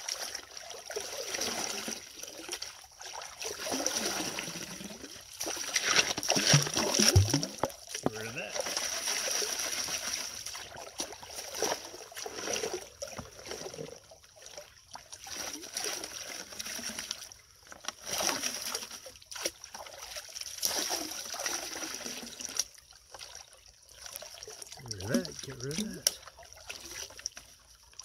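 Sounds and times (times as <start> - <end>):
water sloshing and splashing: 0.0 - 28.0.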